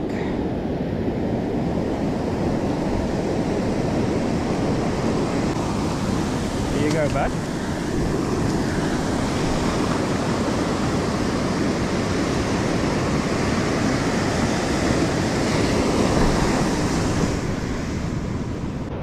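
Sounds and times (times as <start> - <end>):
surf washing over sand: 0.0 - 19.0.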